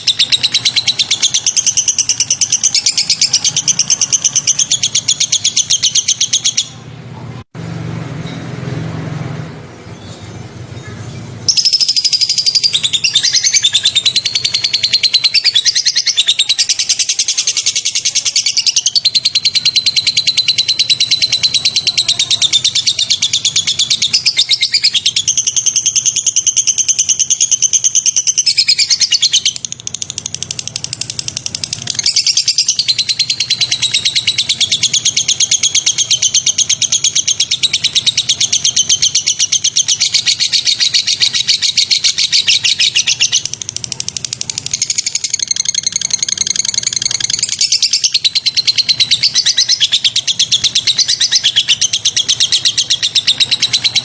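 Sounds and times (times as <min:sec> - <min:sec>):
songbird trilling chatter: 0:00.0 - 0:06.9, 0:09.9 - 0:54.0.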